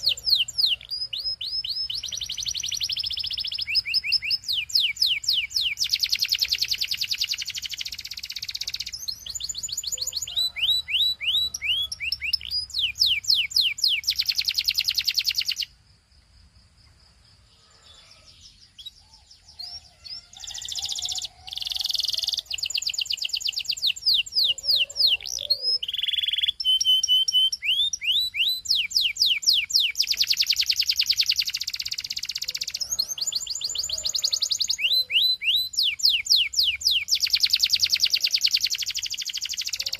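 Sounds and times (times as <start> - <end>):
canary singing: 0.0 - 15.7, 17.8 - 39.9.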